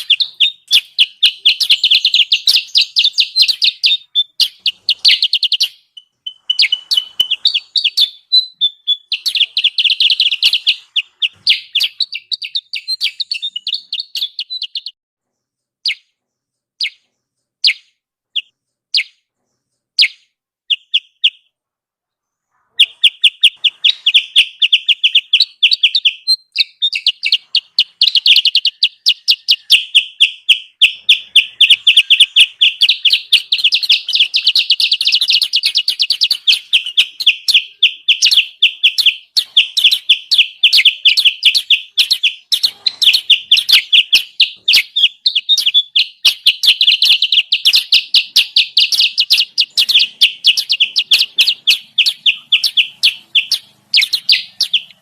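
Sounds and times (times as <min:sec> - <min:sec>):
fast bird chatter: 0:00.0 - 0:15.0, 0:22.7 - 0:55.0
short high bird chirps: 0:00.0 - 0:21.5, 0:22.5 - 0:55.0.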